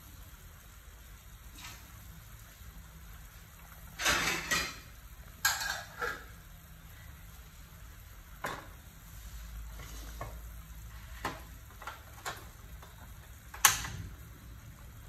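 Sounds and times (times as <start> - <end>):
soup bubbling at a boil: 0.0 - 15.0.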